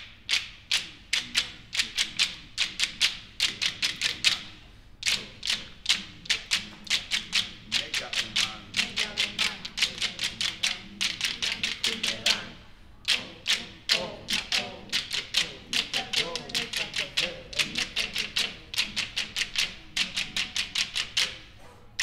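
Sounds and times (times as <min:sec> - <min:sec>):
choir percussive taps: 0:00.0 - 0:21.5
low sustained voices: 0:00.9 - 0:21.6.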